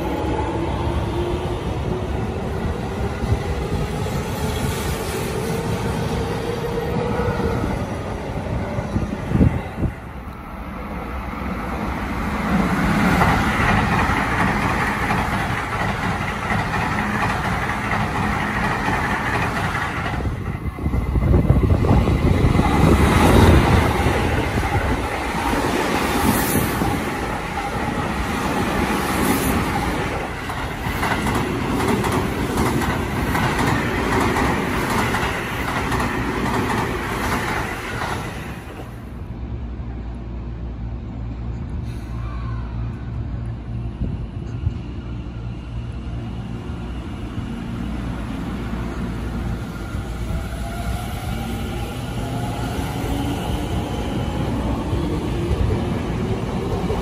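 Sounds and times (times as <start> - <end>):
trains rumbling past: 0.0 - 57.0.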